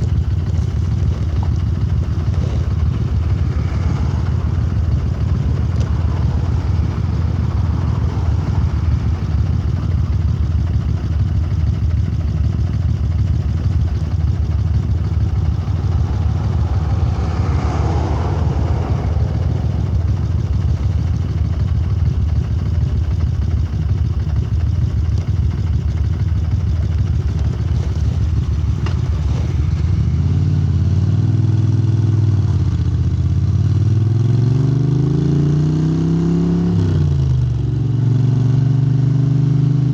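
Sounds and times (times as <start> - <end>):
motorcycle engine exhaust note: 0.0 - 33.0.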